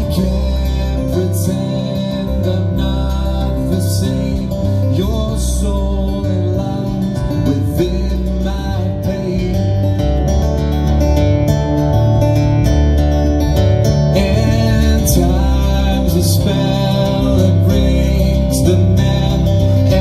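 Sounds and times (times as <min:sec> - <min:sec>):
electric bass notes: 0:00.0 - 0:20.0
strummed acoustic guitar: 0:00.0 - 0:20.0.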